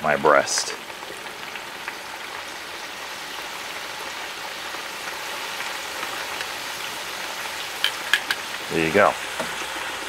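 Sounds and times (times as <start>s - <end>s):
meat deep frying in oil: 0.0s - 10.0s.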